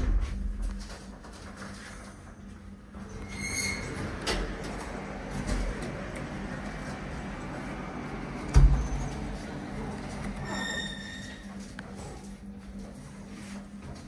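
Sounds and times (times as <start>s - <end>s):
elevator low hum: 0.0s - 14.0s.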